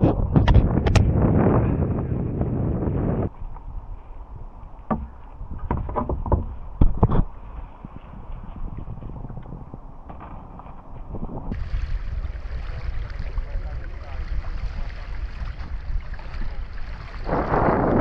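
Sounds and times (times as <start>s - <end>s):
kayak paddling water: 0.0s - 18.0s
wind buffeting microphone: 0.0s - 18.0s.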